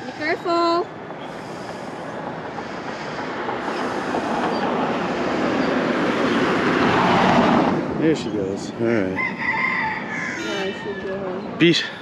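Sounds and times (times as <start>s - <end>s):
vehicle approaching on highway: 0.0s - 12.0s.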